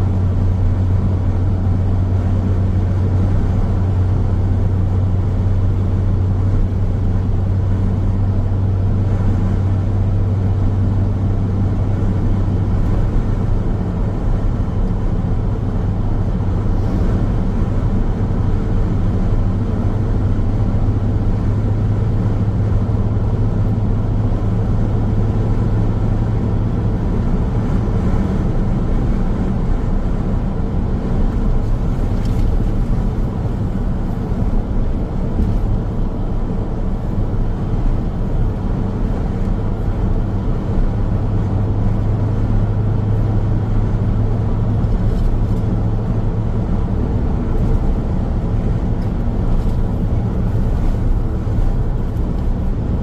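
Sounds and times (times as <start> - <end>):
car engine running: 0.0 - 53.0
tyre and road rumble: 0.0 - 53.0.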